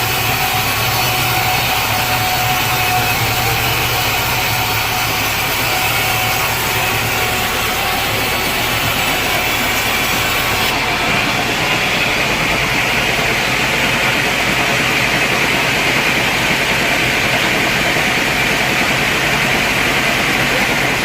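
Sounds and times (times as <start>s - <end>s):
sawmill machinery cutting log: 0.0s - 21.0s.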